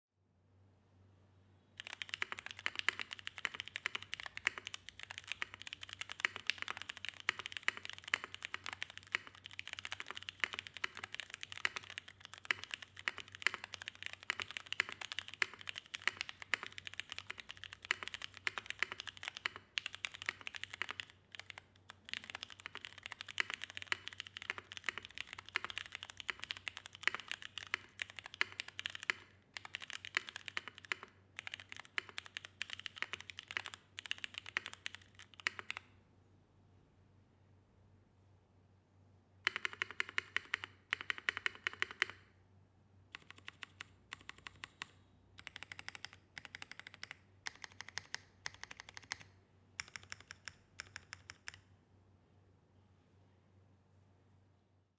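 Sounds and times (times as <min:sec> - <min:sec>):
fast typing on mechanical keyboard: 0:01.8 - 0:35.8, 0:39.4 - 0:42.2, 0:43.1 - 0:51.6.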